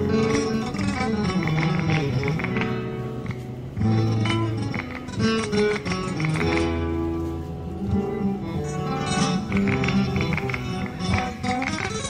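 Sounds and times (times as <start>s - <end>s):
flamenco guitar music: 0.0s - 12.0s.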